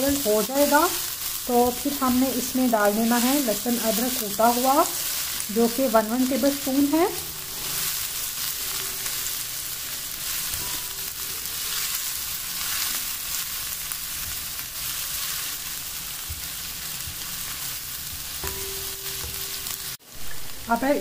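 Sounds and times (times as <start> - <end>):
spatula stirring: 0.0 - 20.0
onions sizzling in oil: 0.0 - 21.0.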